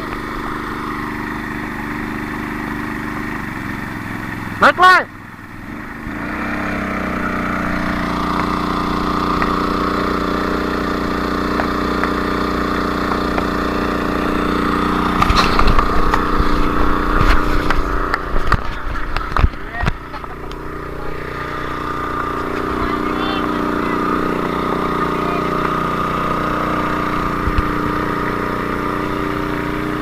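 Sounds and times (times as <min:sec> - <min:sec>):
engine revving and running: 0:00.0 - 0:30.0.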